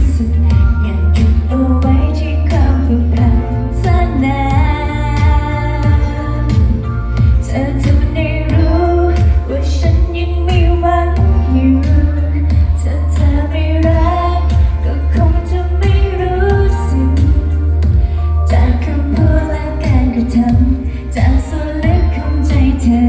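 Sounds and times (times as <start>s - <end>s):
woman singing: 0.0s - 23.0s.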